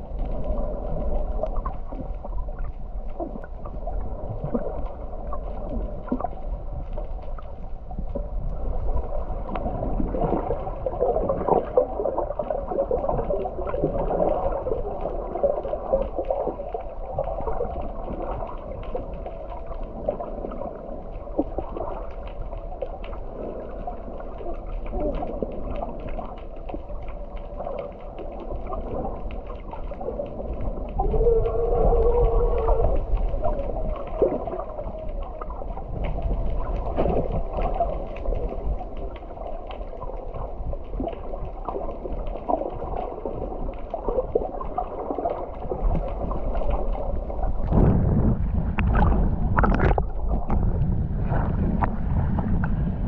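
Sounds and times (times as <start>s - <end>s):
muffled underwater rumble: 0.0s - 53.0s
small crackles and clicks: 0.0s - 53.0s.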